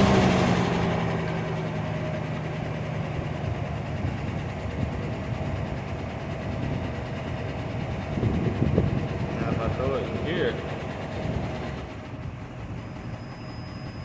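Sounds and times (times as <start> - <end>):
car engine idling: 0.0 - 14.0
light engine ticking: 1.0 - 14.0.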